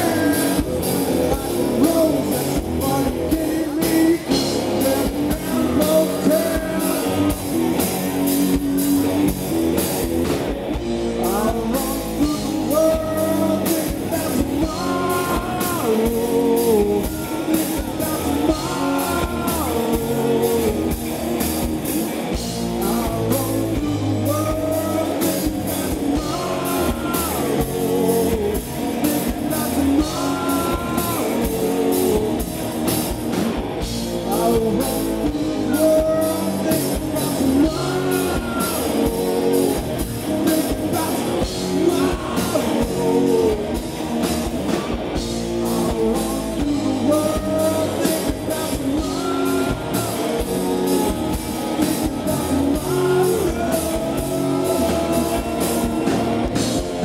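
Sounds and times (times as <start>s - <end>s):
man singing: 0.0s - 9.3s, 11.0s - 57.0s
bass guitar: 0.0s - 57.0s
drum kit beat: 0.0s - 57.0s
electric guitar: 0.0s - 57.0s.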